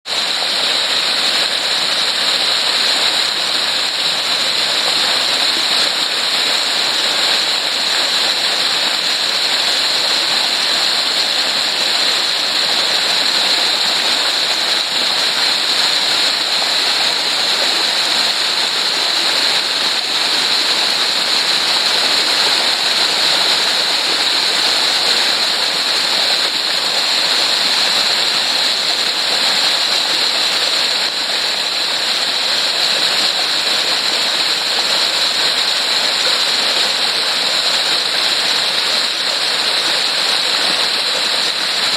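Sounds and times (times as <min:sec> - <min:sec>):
waterfall roaring over rock: 0:00.0 - 0:41.9.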